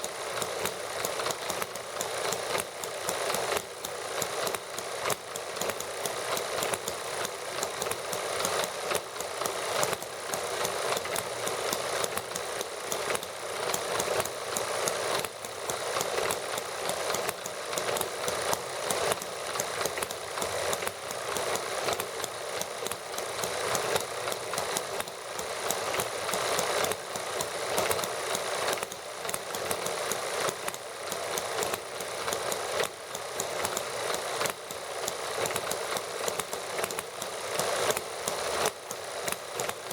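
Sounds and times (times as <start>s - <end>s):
small model engines running: 0.0s - 39.9s.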